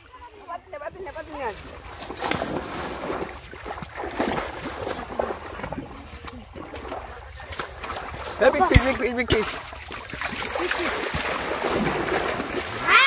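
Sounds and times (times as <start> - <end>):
muddy water splashing: 0.0 - 13.0.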